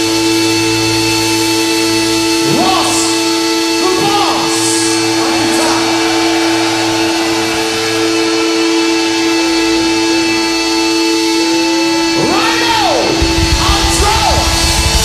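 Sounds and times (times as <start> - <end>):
distorted electric guitar with feedback: 0.0 - 15.0.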